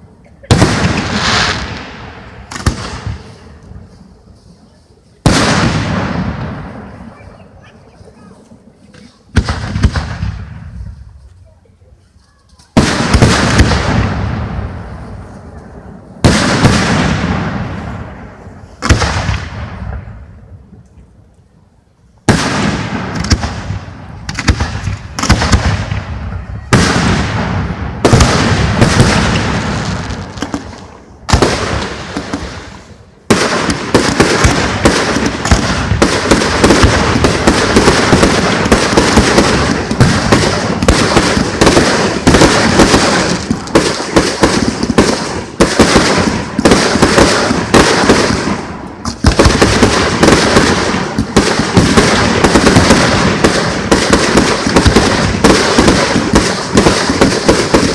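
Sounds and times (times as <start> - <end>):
fireworks exploding: 0.0 - 21.4, 22.1 - 57.9.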